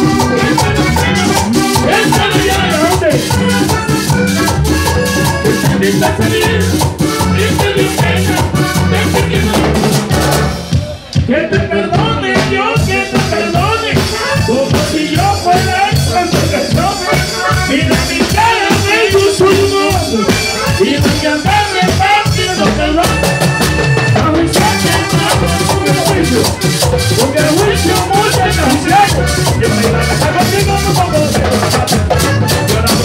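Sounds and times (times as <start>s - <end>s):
hand drums: 0.0s - 11.3s, 12.0s - 33.0s
button accordion melody: 0.0s - 33.0s.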